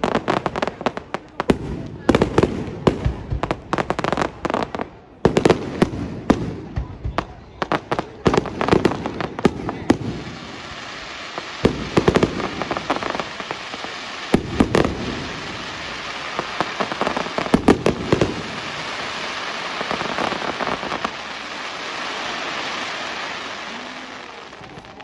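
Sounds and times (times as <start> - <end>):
crackling hiss: 0.0 - 25.0
fireworks bangs: 0.0 - 25.0.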